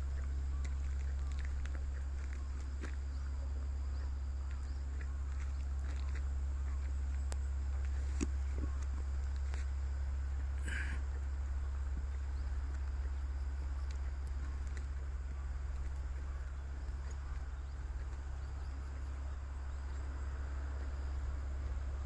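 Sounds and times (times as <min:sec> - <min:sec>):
faint insect chirping: 0:00.0 - 0:22.0
steady low rumble: 0:00.0 - 0:22.0.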